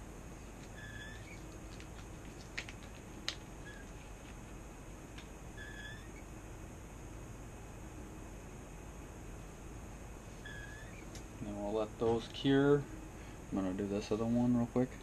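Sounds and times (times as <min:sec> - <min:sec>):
quiet background hiss: 0:00.0 - 0:15.0.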